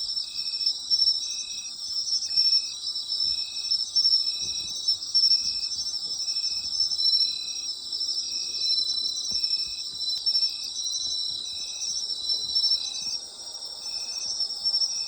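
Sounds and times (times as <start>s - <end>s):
chorus of chirping insects: 0.0s - 15.0s
insect low repeated chirp: 0.0s - 15.0s.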